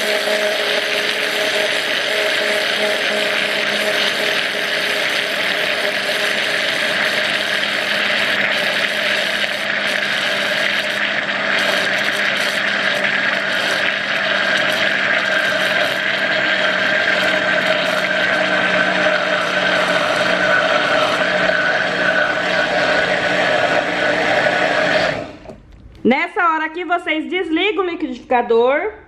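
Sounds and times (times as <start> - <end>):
blender running: 0.0 - 25.7.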